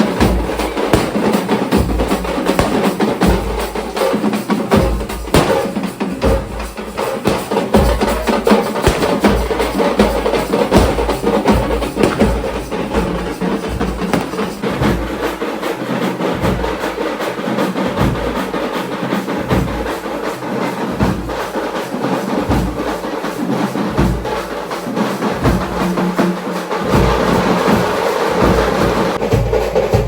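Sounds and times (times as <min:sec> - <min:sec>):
loud music with heavy drumming: 0:00.0 - 0:30.0.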